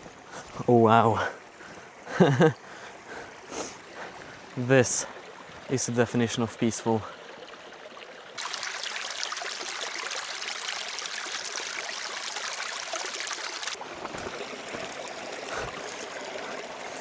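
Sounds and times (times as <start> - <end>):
brook babbling: 0.0 - 17.0.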